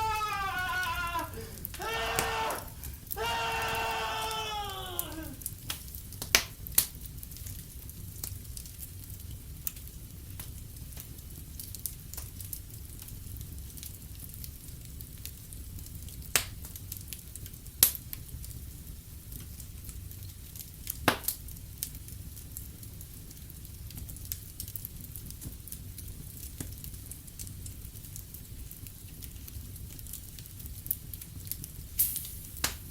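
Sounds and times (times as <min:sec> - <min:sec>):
wood fire crackling in fireplace: 0:00.0 - 0:32.9.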